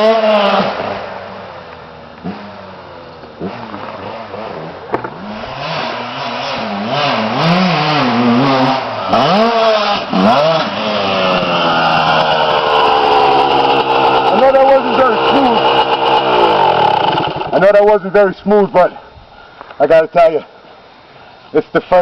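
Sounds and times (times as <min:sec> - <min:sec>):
dirt bike engine revving: 0:00.0 - 0:18.8.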